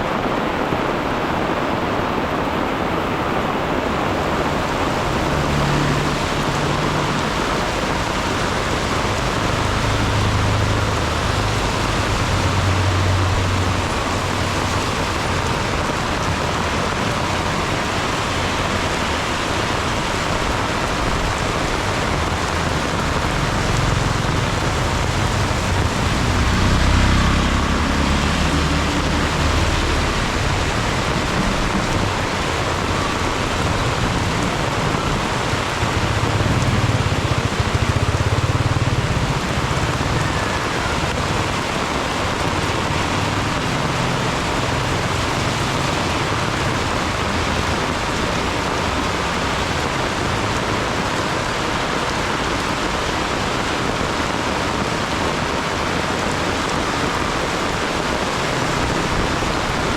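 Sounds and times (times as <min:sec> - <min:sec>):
heavy rain falling: 0:00.0 - 0:59.9
passing vehicles humming: 0:03.4 - 0:59.9.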